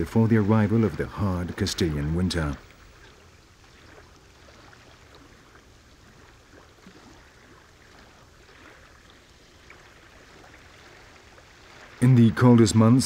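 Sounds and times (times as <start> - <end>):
small water splashes: 0.0 - 13.0
water lapping: 0.0 - 13.0.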